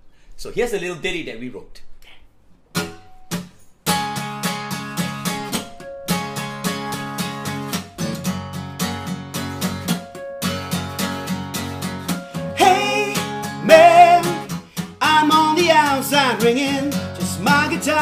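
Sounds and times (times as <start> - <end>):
acoustic guitar strumming: 2.7 - 18.0.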